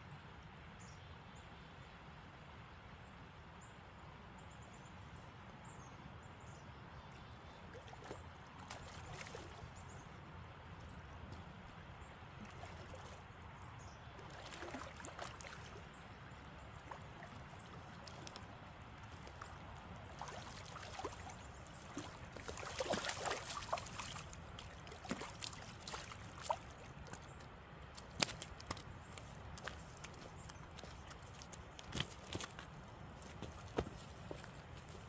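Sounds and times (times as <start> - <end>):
river water running: 1.4 - 35.0.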